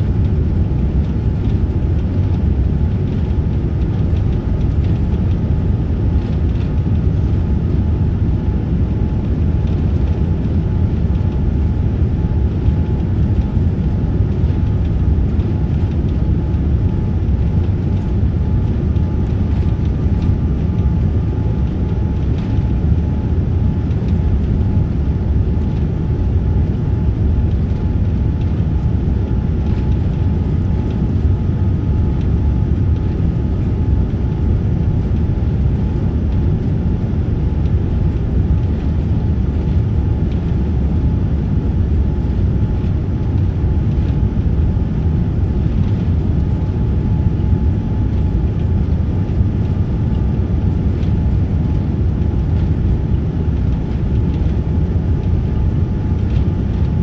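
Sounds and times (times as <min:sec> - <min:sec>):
airliner cabin rumble: 0:00.0 - 0:57.0
faint steady whine: 0:00.0 - 0:57.0.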